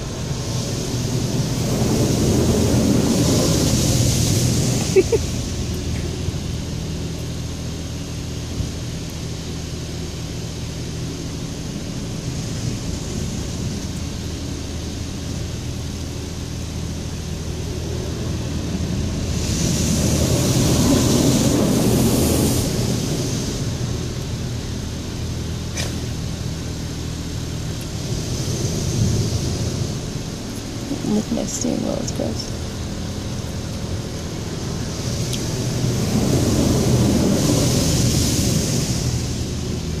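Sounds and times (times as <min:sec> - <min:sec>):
car wash low hum: 0:00.0 - 0:40.0
water spray against car: 0:00.0 - 0:40.0.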